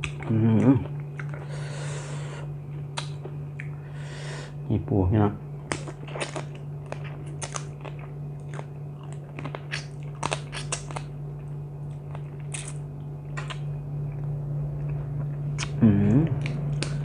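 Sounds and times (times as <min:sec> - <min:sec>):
person chewing crab: 0:00.0 - 0:04.0, 0:05.6 - 0:17.0
low hum: 0:00.0 - 0:17.0.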